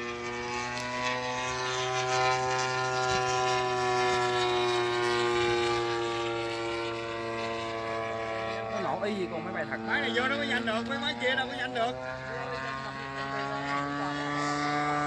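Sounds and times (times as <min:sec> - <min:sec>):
low steady hum: 0:00.0 - 0:15.0
model airplane engine running: 0:00.0 - 0:15.0.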